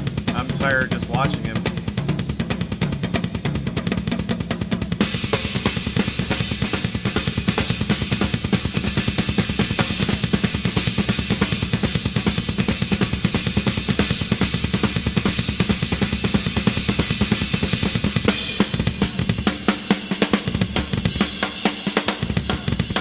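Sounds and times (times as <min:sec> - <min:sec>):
toms and bass drum: 0:00.0 - 0:23.0.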